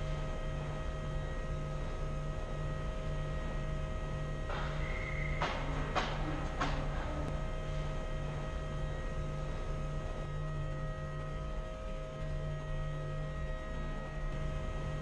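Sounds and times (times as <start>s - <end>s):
low drone of ice rink: 0.0s - 15.0s.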